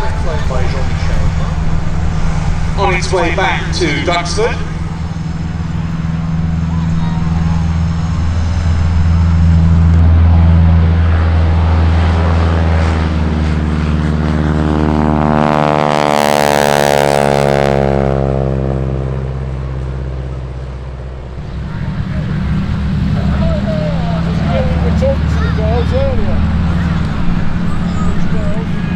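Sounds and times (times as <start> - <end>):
propeller aircraft flying past: 0.0 - 28.9.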